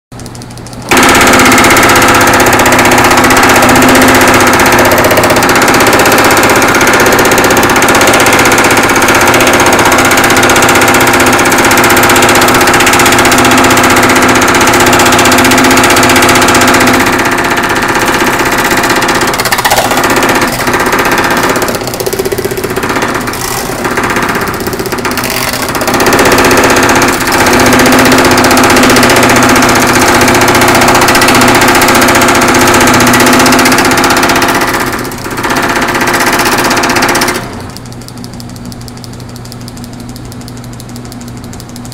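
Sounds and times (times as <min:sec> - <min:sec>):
power hammer hammering sheet metal: 0:00.2 - 0:37.7.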